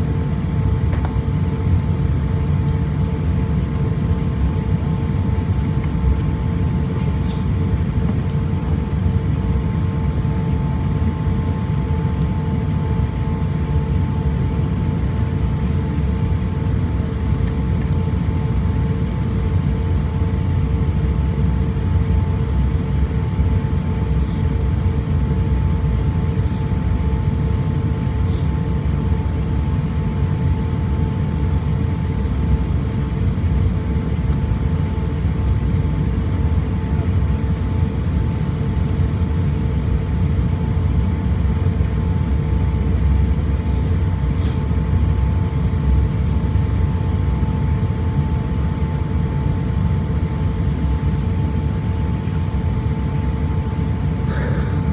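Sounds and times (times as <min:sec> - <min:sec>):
constant two-pitch hum: 0:00.0 - 0:54.9.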